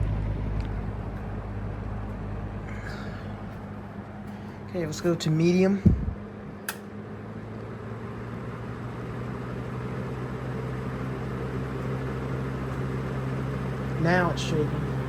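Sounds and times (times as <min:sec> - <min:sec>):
box fan running: 0:00.0 - 0:15.0.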